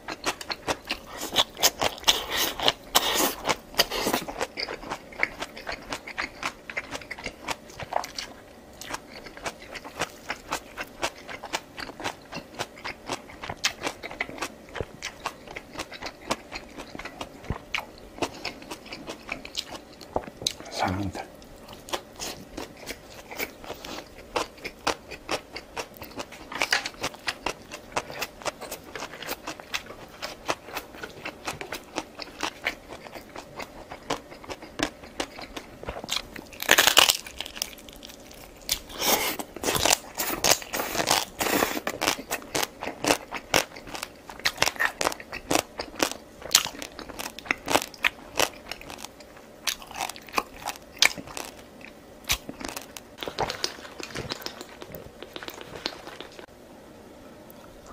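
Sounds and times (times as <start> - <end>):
person chewing crunchy food: 0.0 - 56.5.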